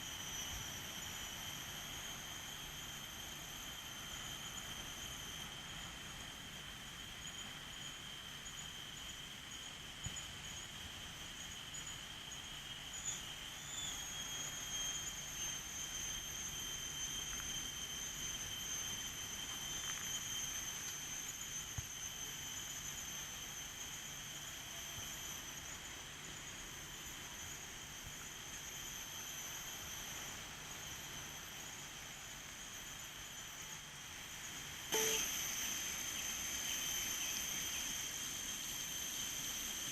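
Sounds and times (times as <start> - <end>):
high-pitched insect drone: 0.0 - 39.9
soft background hiss: 0.0 - 39.9.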